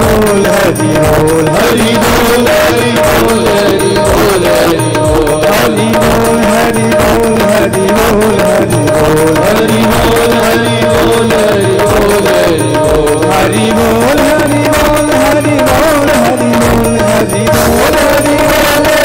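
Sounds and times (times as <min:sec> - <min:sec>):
hand drum rhythm: 0:00.0 - 0:19.0.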